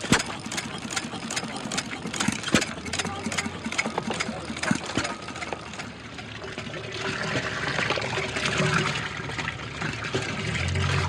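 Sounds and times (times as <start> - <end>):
water splashing and gushing: 0.0 - 11.0.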